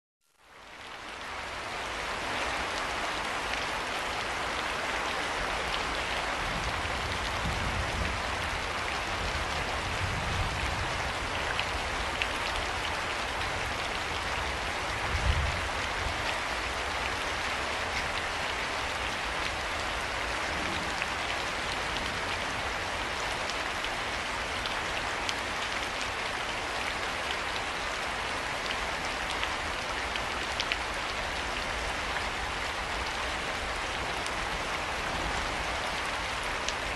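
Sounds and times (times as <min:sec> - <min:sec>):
rain falling: 0:00.3 - 0:36.9.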